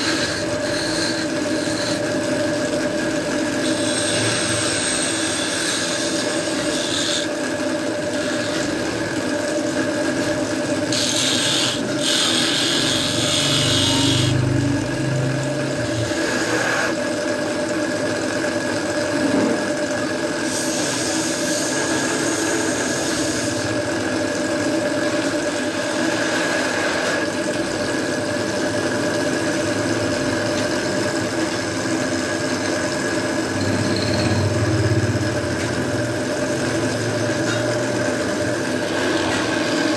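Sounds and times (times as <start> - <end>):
gouge scraping spinning wood: 0.0 - 39.9
wood lathe humming: 0.0 - 39.9.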